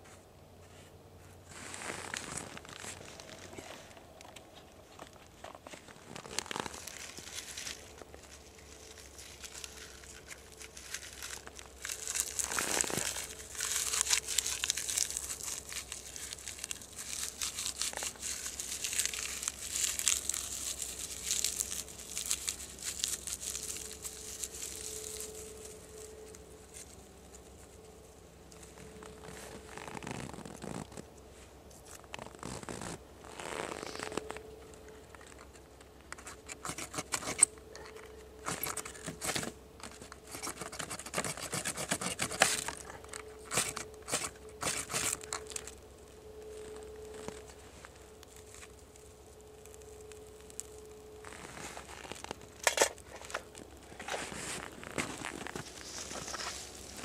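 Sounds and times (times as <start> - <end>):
dry tinder rustling in hands: 0.7 - 31.0, 38.4 - 57.0.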